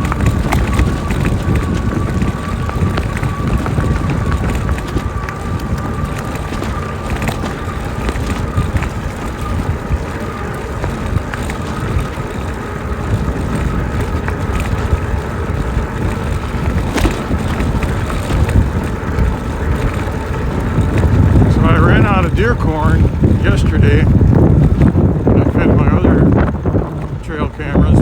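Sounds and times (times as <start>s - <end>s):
faint electric motor whine: 0.0s - 28.0s
tyres rolling: 0.0s - 28.0s
wind rushing over microphone: 0.0s - 28.0s.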